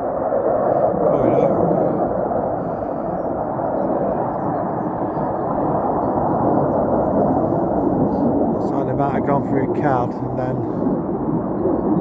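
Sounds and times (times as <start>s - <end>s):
distant fighter jets roaring: 0.0s - 12.0s.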